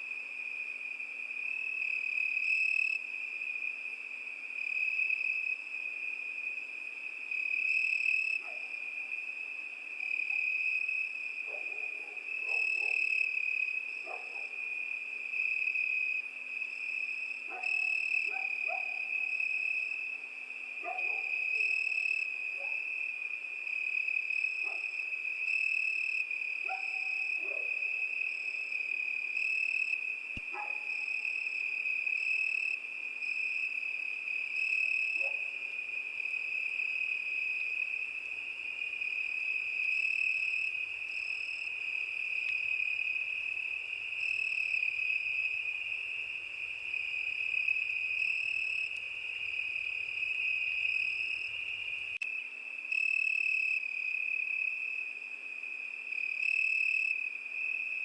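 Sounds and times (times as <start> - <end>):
crickets trilling: 0.3 - 58.0.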